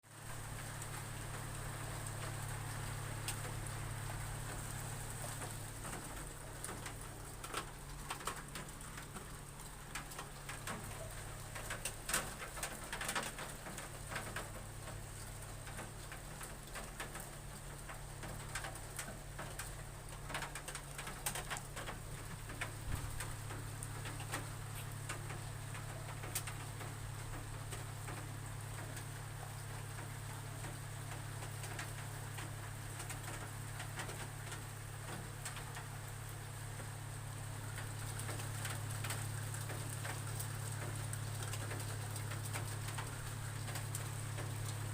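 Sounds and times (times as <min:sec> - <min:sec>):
raindrops tapping on a roof: 0:00.0 - 0:44.9.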